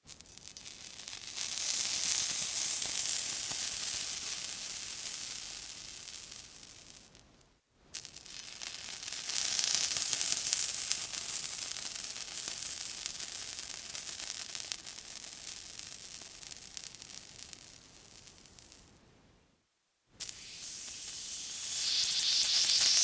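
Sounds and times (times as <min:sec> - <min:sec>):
water sizzling on hot surface: 0:00.1 - 0:07.2, 0:07.9 - 0:19.0, 0:20.2 - 0:23.0.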